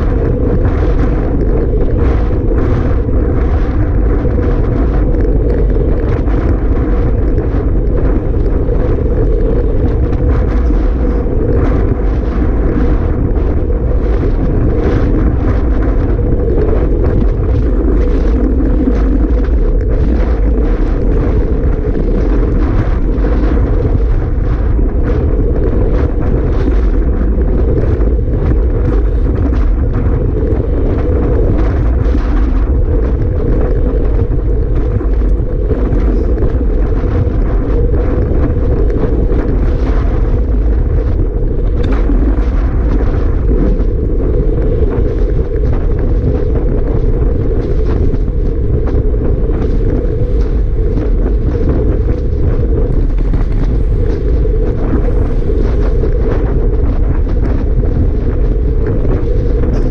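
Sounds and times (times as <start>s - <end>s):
strong wind buffeting microphone: 0.0s - 59.9s.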